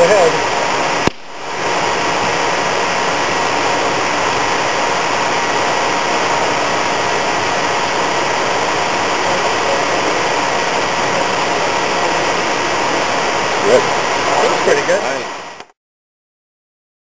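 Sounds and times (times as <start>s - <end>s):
faint high whining tones: 0.0s - 15.6s
rushing machinery noise: 0.0s - 15.7s.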